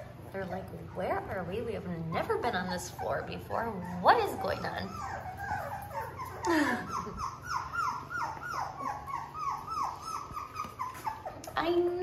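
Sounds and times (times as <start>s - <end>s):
puppy whimpering: 0.0s - 12.0s.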